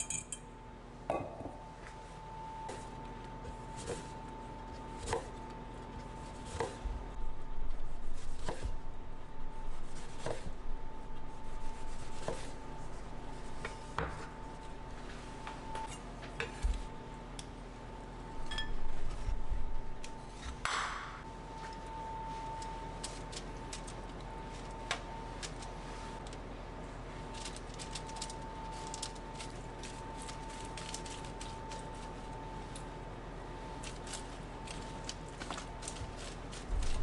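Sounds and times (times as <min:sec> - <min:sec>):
faint high hum: 0:00.0 - 0:37.0.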